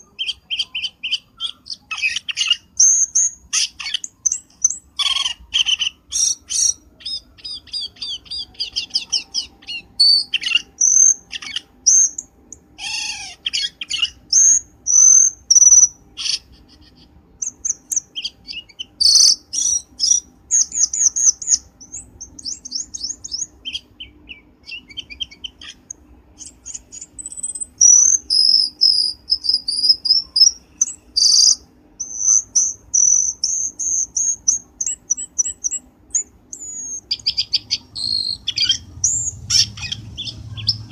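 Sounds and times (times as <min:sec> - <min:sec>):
faint steady hum: 0:00.0 - 0:40.9
songbird singing: 0:00.0 - 0:40.9.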